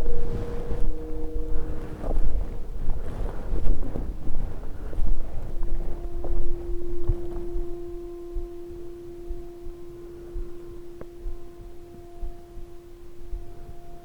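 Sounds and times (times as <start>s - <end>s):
steady eerie tone: 0.0s - 14.0s.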